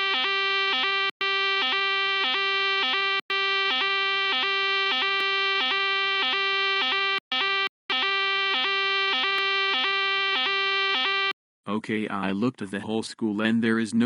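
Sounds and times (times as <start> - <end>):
fire alarm buzzing: 0.0 - 11.4.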